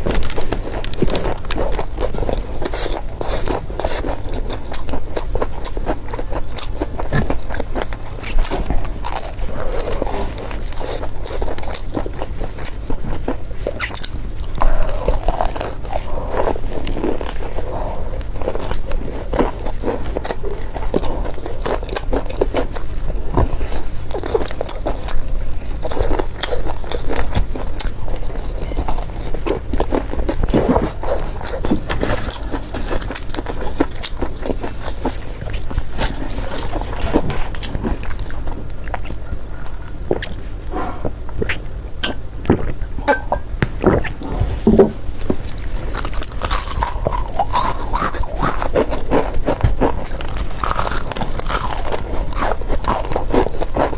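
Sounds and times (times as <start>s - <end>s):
crisp crust crackles: 0.0s - 42.9s, 43.7s - 53.9s
biting and chewing fried chicken: 0.0s - 44.3s, 44.9s - 53.9s.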